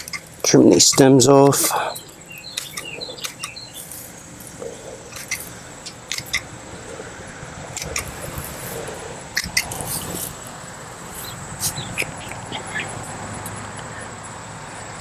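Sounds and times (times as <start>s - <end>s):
foliage rustling: 0.0s - 13.3s.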